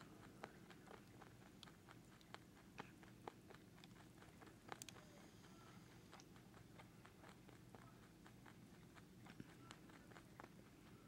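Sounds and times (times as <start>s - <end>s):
rabbit teeth crunching: 0.0s - 11.0s.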